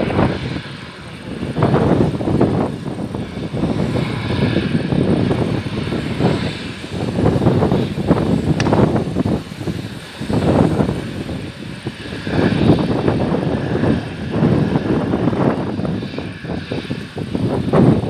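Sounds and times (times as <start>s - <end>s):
jet engine whine: 0.0s - 18.0s
wind buffeting microphone: 0.0s - 18.0s.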